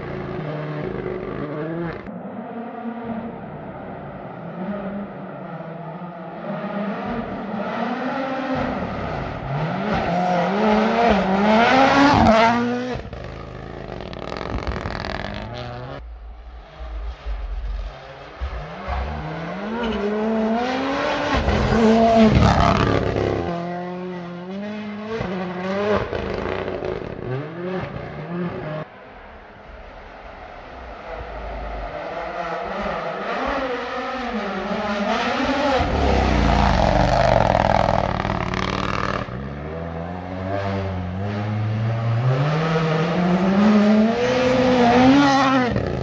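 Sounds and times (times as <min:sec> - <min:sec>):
rally car engine revving: 0:00.0 - 0:03.6, 0:04.2 - 0:29.1, 0:30.6 - 0:46.0.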